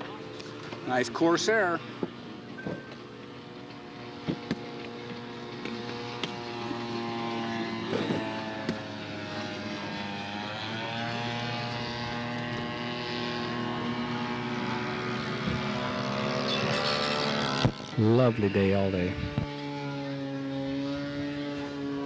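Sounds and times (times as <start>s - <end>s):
model airplane engine running: 0.0s - 22.0s.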